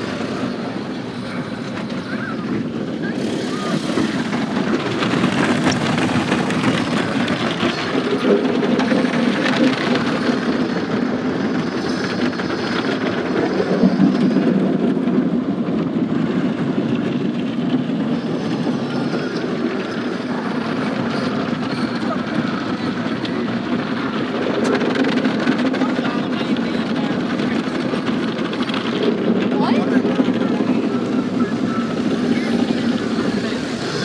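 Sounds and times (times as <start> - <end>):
car wash machinery: 0.0 - 34.0.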